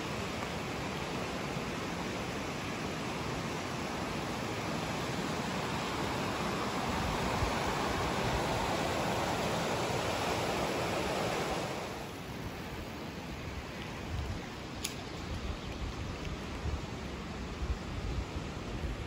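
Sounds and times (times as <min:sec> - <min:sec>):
river rushing over stones: 0:00.0 - 0:19.0.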